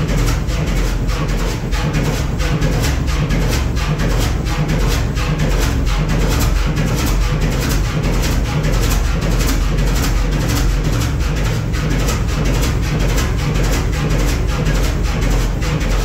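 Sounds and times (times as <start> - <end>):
diesel engine running slowly: 0.0 - 16.0.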